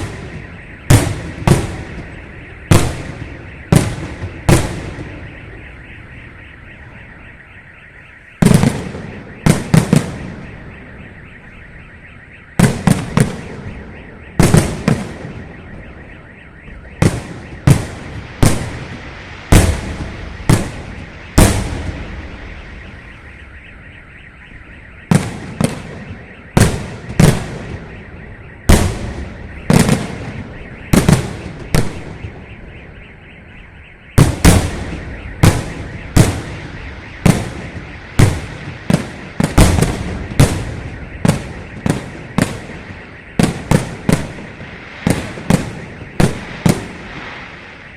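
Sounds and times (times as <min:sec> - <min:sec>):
fireworks bangs with echo: 0:00.0 - 0:47.9.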